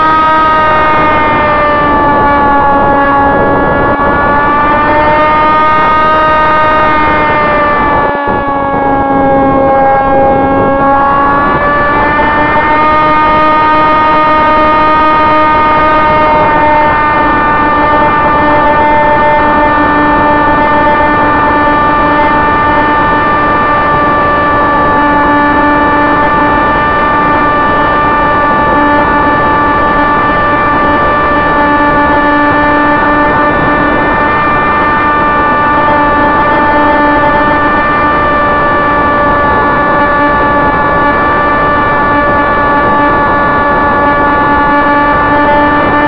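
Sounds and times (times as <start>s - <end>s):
electric motor and propeller whine: 0.0s - 46.0s.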